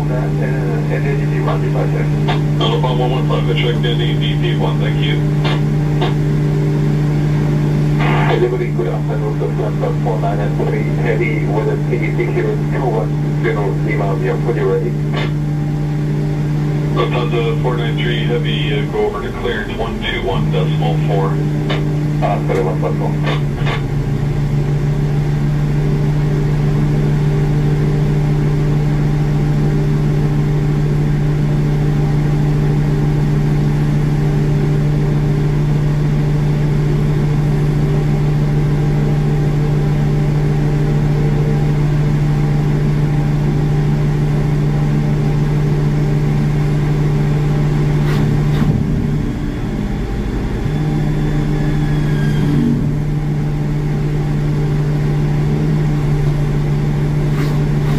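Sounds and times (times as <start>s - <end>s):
tug engine idling: 0.0s - 57.9s.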